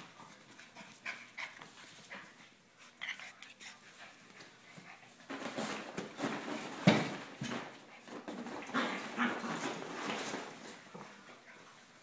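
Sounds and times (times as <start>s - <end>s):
puppies scuffling on tile: 0.0s - 12.0s.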